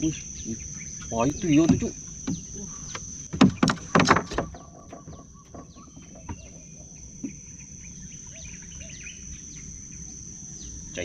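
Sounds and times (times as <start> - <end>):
birds chirping: 0.0 - 11.0
insects droning: 0.0 - 11.0.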